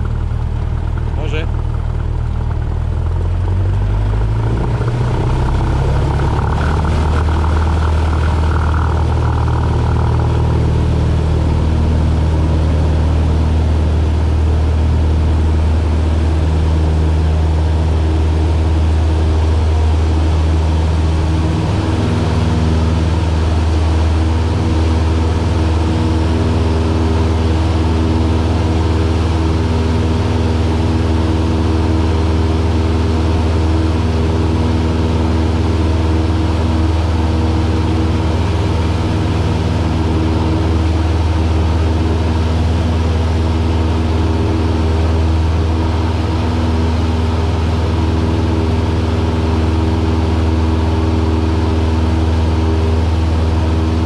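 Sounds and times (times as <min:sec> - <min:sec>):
light aircraft piston engine: 0:00.0 - 0:54.0.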